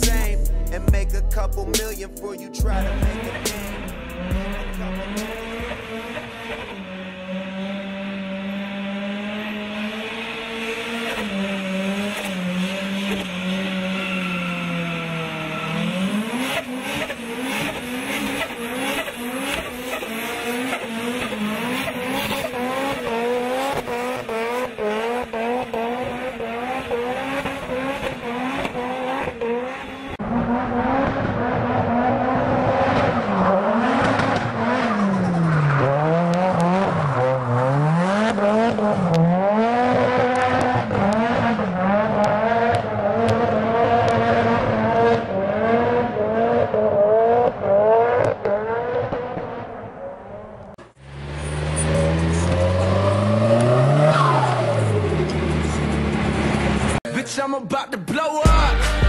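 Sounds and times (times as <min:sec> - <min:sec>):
car engine revving hard: 0:02.7 - 0:57.0.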